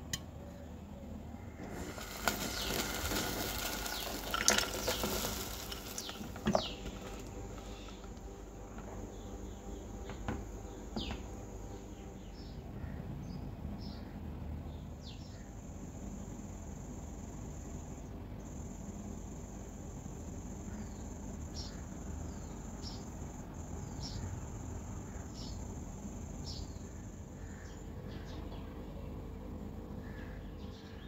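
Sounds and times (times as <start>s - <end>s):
insects droning: 0.0s - 31.0s
low background hum: 0.0s - 31.0s.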